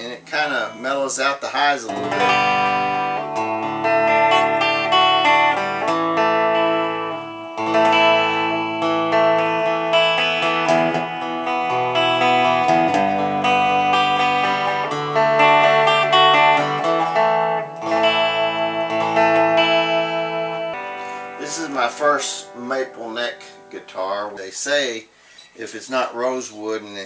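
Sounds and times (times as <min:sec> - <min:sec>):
electric guitar chords and notes: 0:01.9 - 0:24.2.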